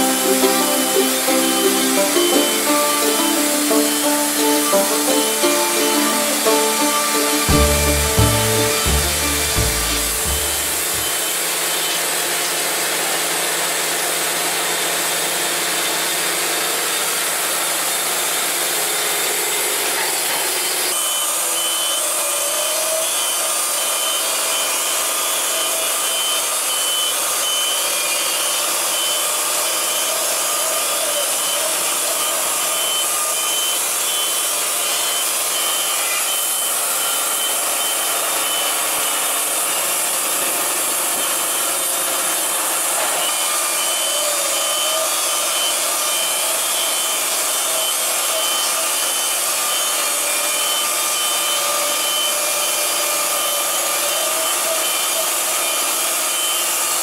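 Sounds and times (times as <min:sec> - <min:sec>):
band sawmill cutting log: 0:00.0 - 0:57.0.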